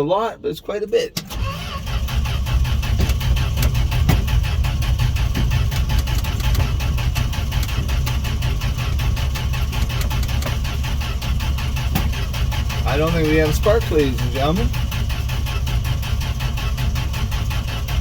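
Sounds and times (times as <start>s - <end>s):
engine cranking on starter motor: 1.1s - 18.0s.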